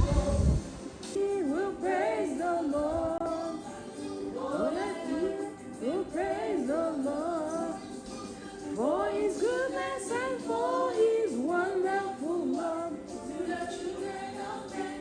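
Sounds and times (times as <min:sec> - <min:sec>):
gospel song with vocals: 0:00.0 - 0:15.0.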